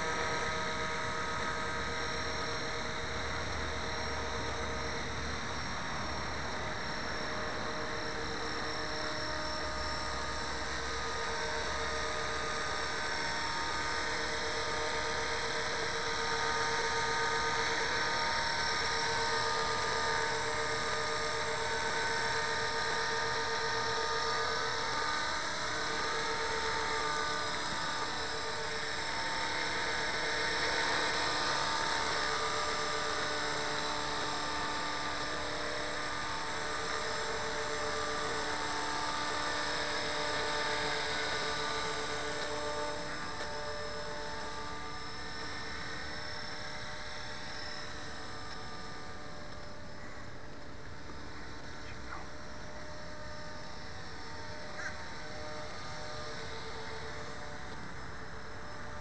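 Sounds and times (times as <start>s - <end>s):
rc helicopter high whine: 0.0s - 59.0s.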